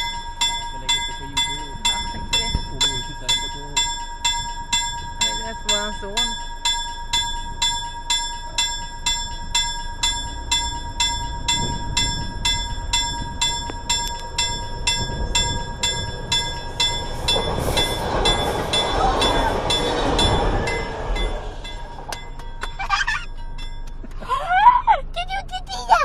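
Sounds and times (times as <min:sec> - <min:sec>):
railroad crossing bell ringing: 0:00.0 - 0:26.0
train rumble and rail noise: 0:00.0 - 0:26.0.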